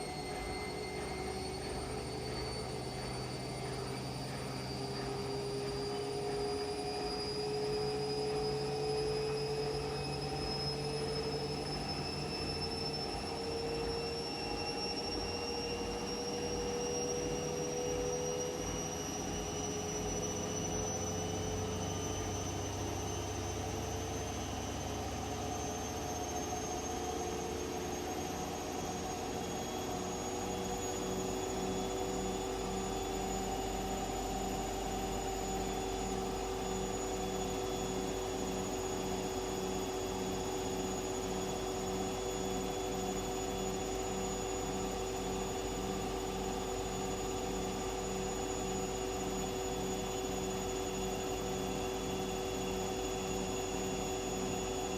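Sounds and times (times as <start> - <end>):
washing machine motor whine: 0.0 - 54.9.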